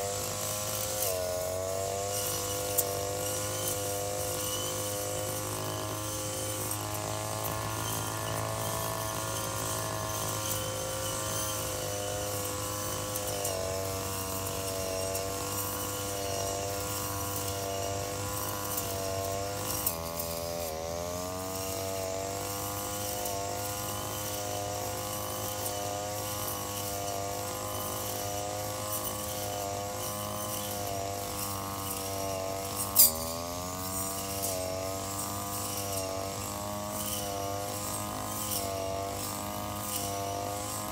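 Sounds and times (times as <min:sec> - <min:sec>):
brush cutter engine cutting grass: 0:00.0 - 0:40.9.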